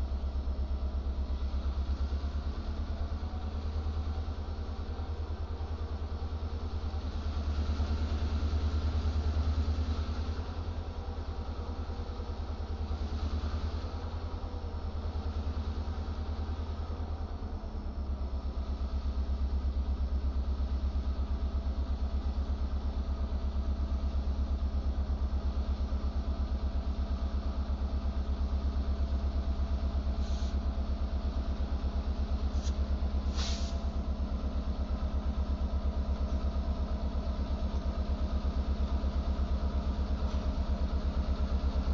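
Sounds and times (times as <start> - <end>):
diesel locomotive rumble: 0.0 - 41.9.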